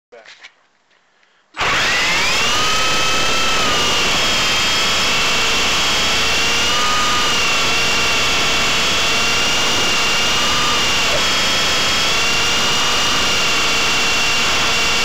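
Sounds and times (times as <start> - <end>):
helicopter motor and rotor whining: 1.6 - 15.0.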